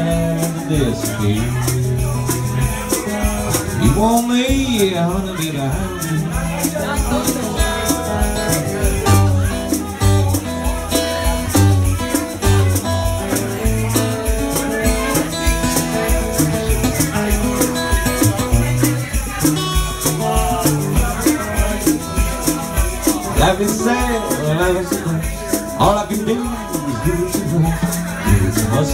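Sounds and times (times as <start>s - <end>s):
acoustic guitar: 0.0s - 28.9s
rattle ticking in time: 0.1s - 28.9s.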